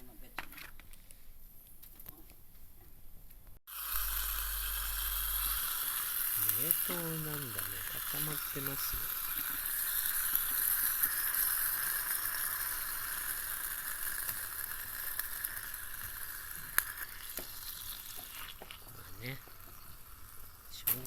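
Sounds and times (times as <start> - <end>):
meat sizzling in a skillet: 3.7 - 21.0.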